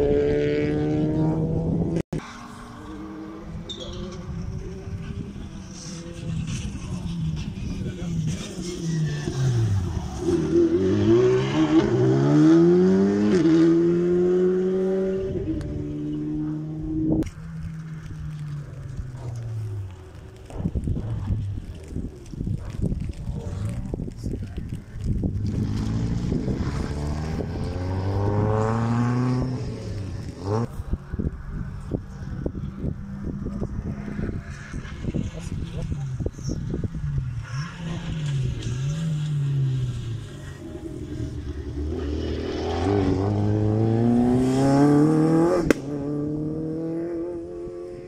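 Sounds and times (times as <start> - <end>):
rally car engine revving: 0.0 - 31.0, 31.8 - 48.0.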